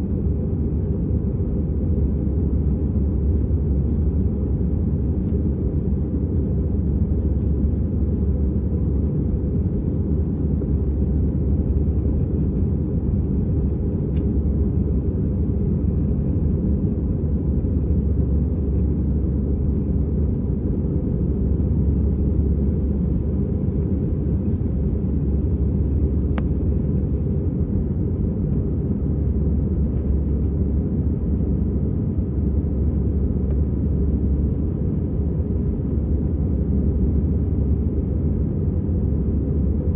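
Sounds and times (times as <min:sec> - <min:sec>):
airliner engine rumble in cabin: 0:00.0 - 0:39.9.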